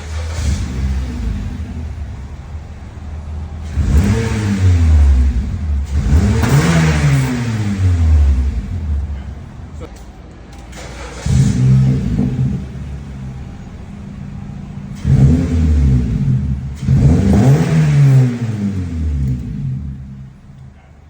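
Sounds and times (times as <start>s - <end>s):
car engine revving: 0.0s - 10.1s, 10.7s - 21.0s.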